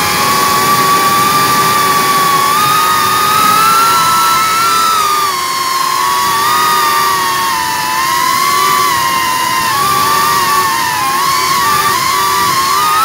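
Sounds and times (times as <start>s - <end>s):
drone motors and propellers whining: 0.0s - 13.0s.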